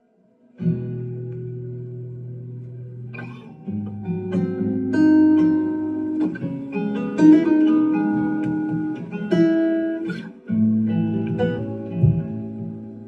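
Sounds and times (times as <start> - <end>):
guitar melody: 0.0 - 13.0.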